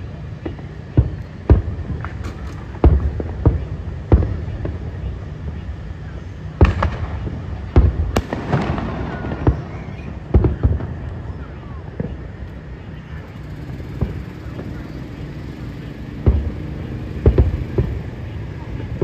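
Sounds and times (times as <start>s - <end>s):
firework booms: 0.0s - 19.0s
firework crackling: 0.0s - 19.0s.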